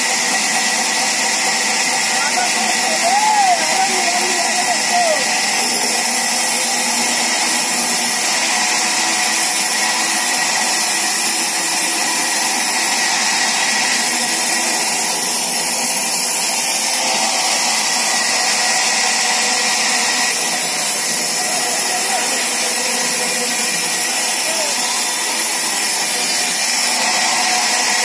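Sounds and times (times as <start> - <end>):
band saw cutting wood: 0.0 - 28.0.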